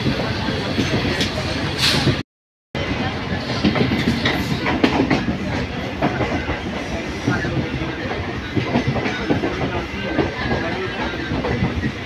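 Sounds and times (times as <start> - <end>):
train rumbling on rails: 0.0 - 2.2, 2.8 - 12.0.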